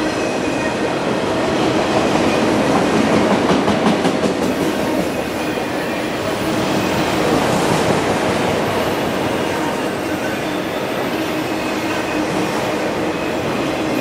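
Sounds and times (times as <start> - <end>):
steel wheels on rail: 0.0 - 14.0.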